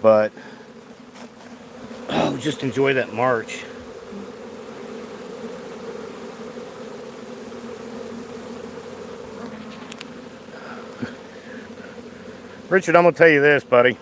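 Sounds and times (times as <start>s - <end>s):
honeybee swarm humming: 0.0s - 14.0s.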